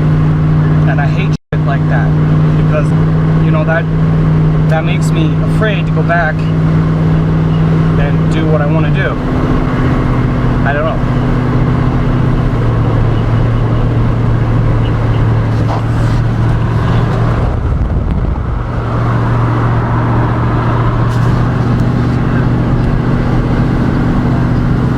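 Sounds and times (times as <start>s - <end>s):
road noise rush: 0.0s - 24.9s
truck engine hum: 0.0s - 24.9s.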